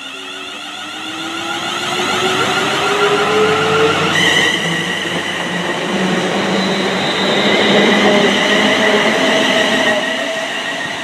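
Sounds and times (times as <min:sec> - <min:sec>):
wheels rushing on rails: 0:00.0 - 0:11.0.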